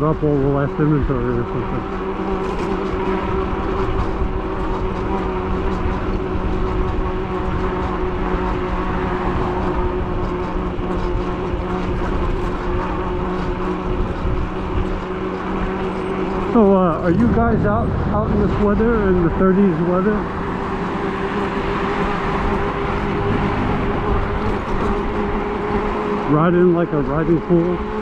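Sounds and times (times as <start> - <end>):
road rumble: 0.0 - 28.0
steady low hum: 0.4 - 28.0
wind rushing over microphone: 1.0 - 26.4.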